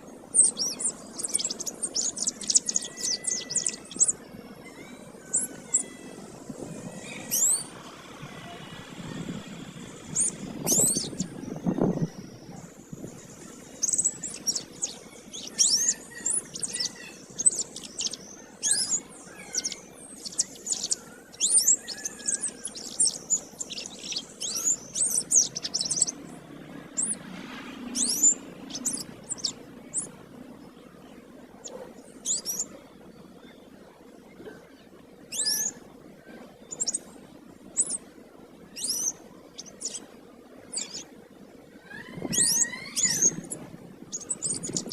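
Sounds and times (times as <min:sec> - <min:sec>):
canary singing: 0:00.3 - 0:30.4, 0:31.5 - 0:33.6, 0:35.3 - 0:35.9, 0:36.6 - 0:37.1, 0:37.7 - 0:41.2, 0:41.8 - 0:44.9.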